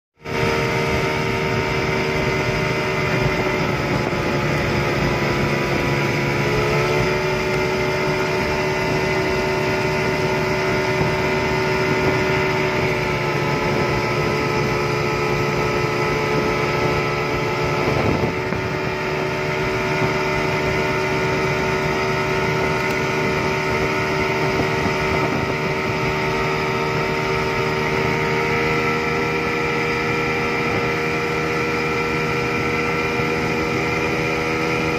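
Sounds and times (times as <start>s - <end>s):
boat wake and spray rushing: 0.2s - 34.9s
outboard motor running flat out: 0.2s - 34.9s.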